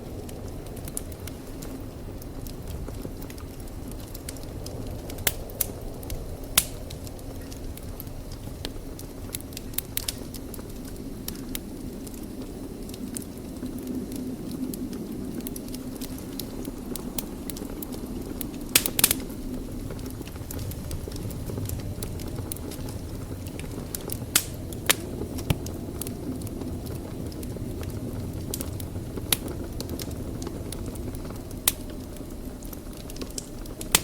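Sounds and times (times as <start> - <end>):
wood fire burning: 0.0 - 34.0.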